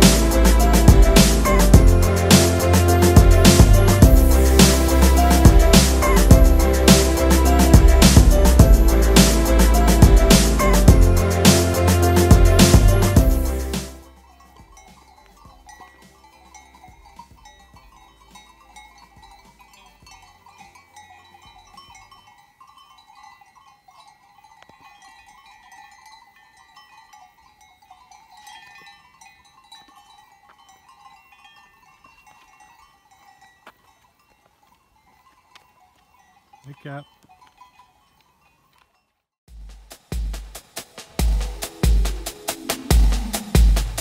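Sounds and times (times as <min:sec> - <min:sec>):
livestock bells tinkling: 0:00.0 - 0:39.2.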